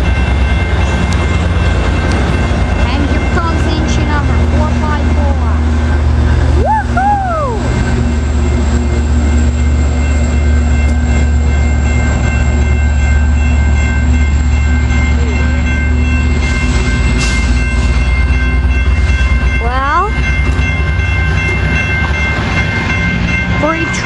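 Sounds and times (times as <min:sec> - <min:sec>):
light-rail trolley rumbling past: 0:00.0 - 0:24.0.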